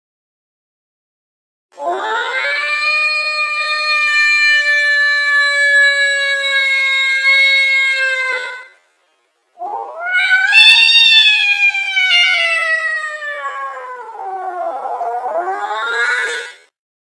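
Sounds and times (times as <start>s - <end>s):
cat yowling: 1.8s - 8.7s, 9.6s - 16.7s.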